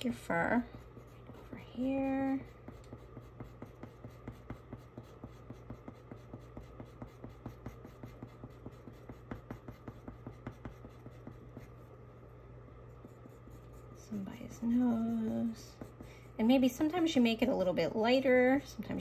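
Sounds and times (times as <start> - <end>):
pencil scratching on paper: 0.3 - 11.9, 12.9 - 16.6.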